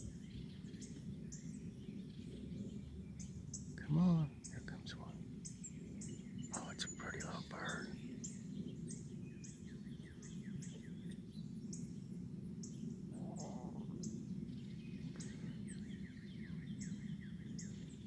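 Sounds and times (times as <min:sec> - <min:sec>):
low background rumble: 0:00.0 - 0:18.0
songbirds chirping: 0:00.0 - 0:18.0.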